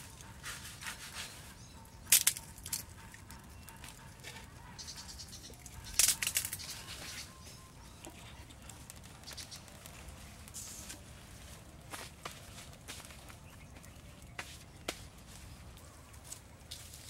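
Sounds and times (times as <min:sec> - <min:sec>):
dry twigs and leaves crackling: 0:00.0 - 0:17.0.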